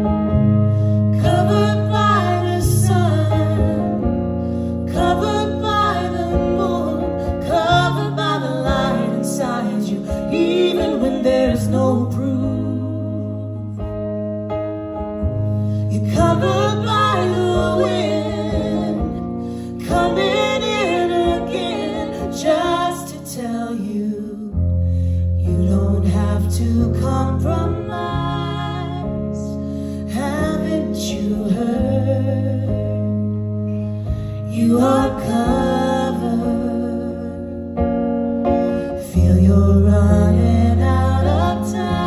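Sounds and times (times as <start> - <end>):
electric guitar: 0.0 - 42.0
held bass notes: 0.0 - 42.0
women singing: 1.1 - 14.1, 15.9 - 24.6, 25.4 - 33.3, 34.4 - 37.6, 38.9 - 42.0.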